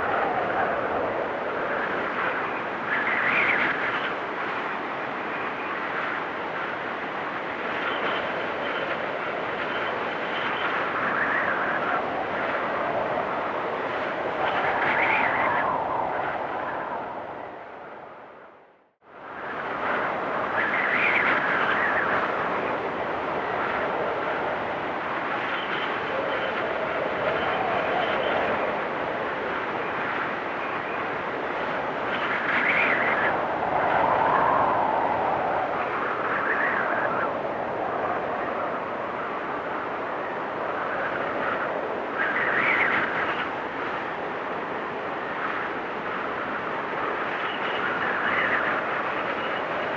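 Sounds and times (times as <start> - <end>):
blizzard wind howling: 0.0 - 49.9.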